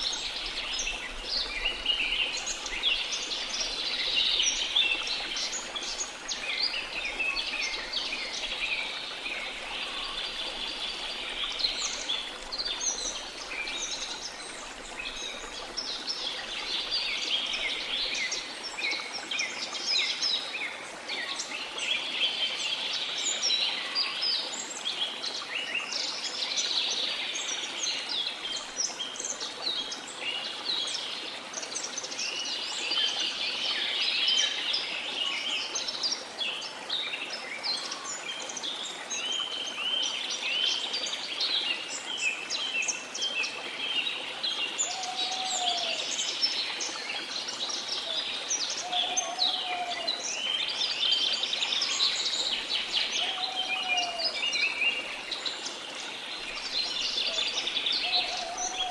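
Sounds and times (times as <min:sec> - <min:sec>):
songbirds chirping and twittering: 0:00.0 - 0:58.9.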